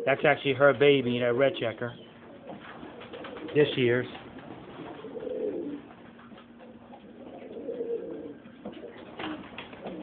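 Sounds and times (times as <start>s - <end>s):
pigeons cooing: 0.0s - 0.3s, 1.2s - 10.0s.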